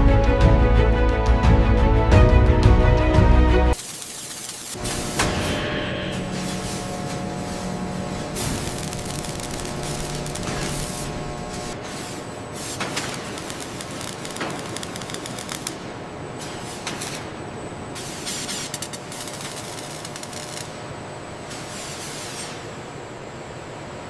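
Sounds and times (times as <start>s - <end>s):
steady machinery background: 0.0s - 24.0s.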